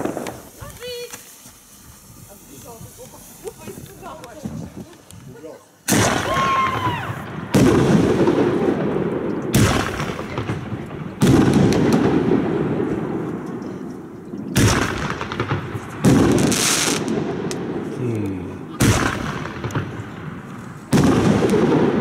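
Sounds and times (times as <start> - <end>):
fireworks bangs: 0.0 - 5.0, 5.8 - 22.0.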